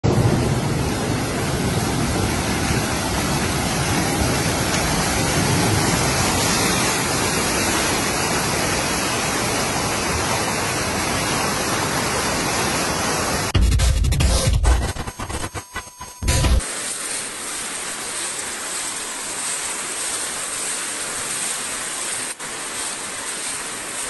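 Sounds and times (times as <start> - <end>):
floodwater rushing: 0.1 - 13.6, 16.6 - 24.0.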